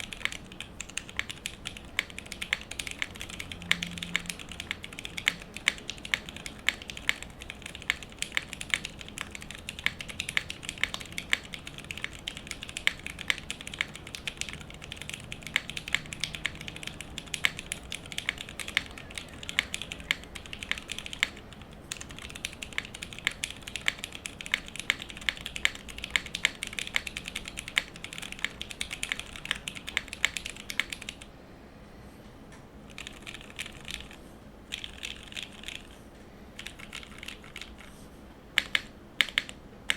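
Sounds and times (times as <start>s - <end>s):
mechanical keyboard typing: 0.0s - 31.3s, 32.9s - 36.0s, 36.6s - 39.9s.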